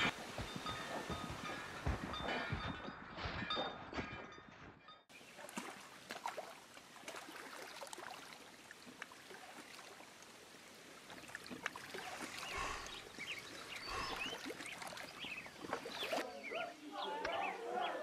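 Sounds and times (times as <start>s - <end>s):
water splashing and trickling: 0.0s - 3.7s, 5.1s - 17.1s.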